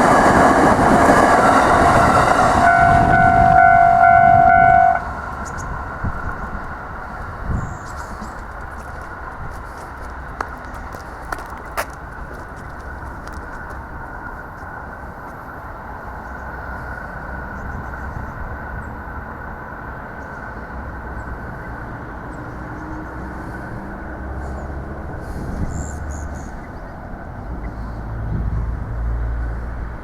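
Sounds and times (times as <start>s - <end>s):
electric train rumbling over rails: 0.0s - 30.0s.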